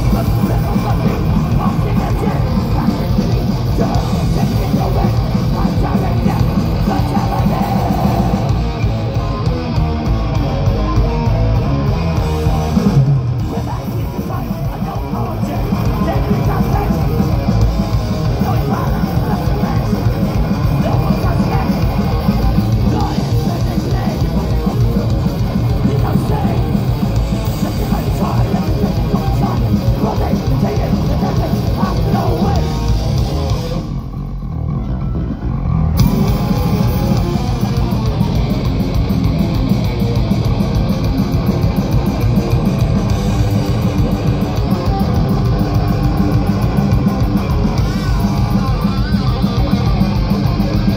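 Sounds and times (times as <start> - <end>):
live thrash metal band: 0.0 - 50.9.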